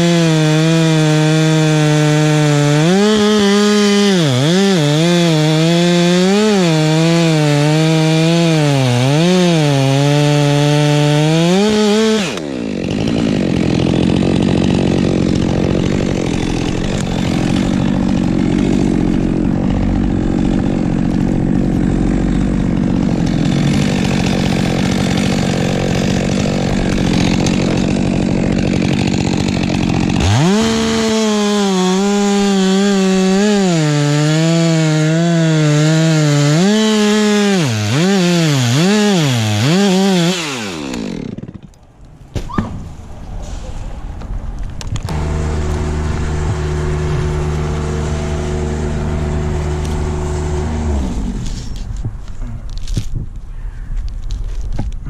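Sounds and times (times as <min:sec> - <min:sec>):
chainsaw cutting wood: 0:00.0 - 0:41.8, 0:44.9 - 0:52.1.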